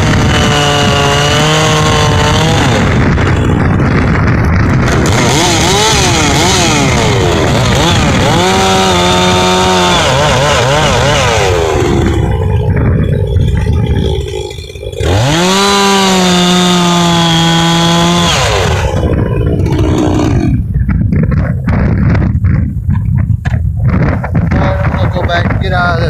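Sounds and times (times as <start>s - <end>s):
chainsaw cutting log: 0.0s - 22.7s.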